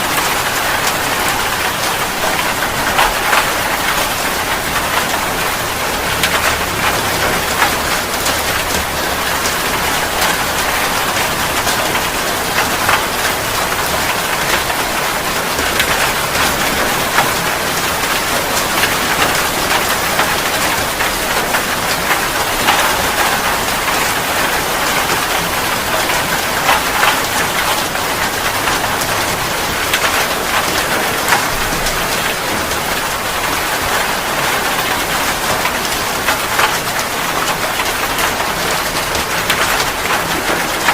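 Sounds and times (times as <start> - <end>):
raindrops ticking: 0.0 - 40.9
steady rain hissing: 0.0 - 40.9.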